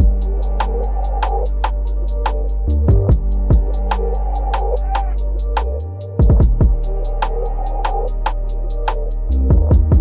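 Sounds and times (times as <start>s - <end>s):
held low bass: 0.0s - 10.0s.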